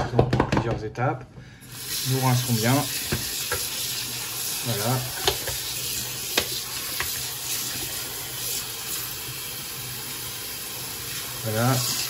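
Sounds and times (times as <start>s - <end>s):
tap water running into colander: 1.6s - 12.0s.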